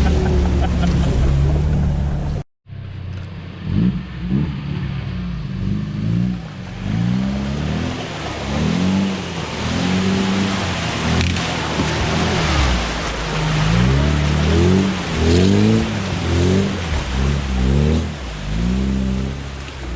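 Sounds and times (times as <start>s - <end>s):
engine revving: 0.0s - 19.9s.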